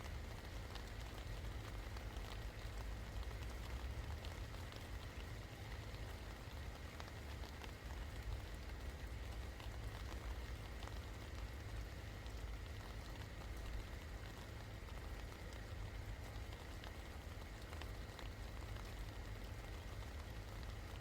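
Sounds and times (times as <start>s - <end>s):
rain falling: 0.0s - 21.0s
raindrops ticking: 0.0s - 21.0s.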